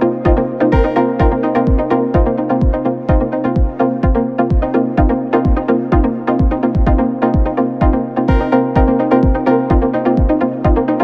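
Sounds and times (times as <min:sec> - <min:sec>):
electronic dance music: 0:00.0 - 0:11.0
held synth chords: 0:00.0 - 0:11.0
steady kick drum: 0:00.0 - 0:11.0.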